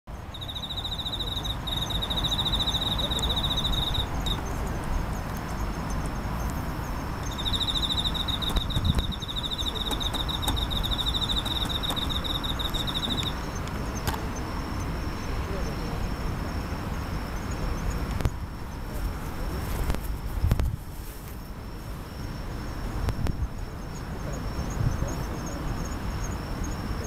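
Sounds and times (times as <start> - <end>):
cricket trilling: 0.1 - 20.6, 21.3 - 27.0.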